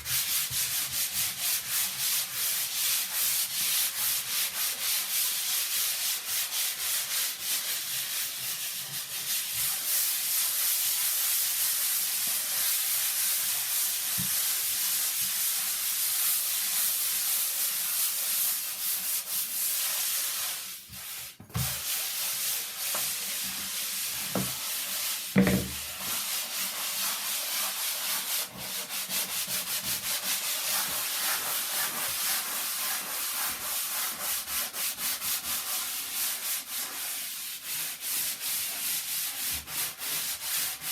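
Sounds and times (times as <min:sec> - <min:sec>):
sandpaper rubbing: 0:00.1 - 0:40.9.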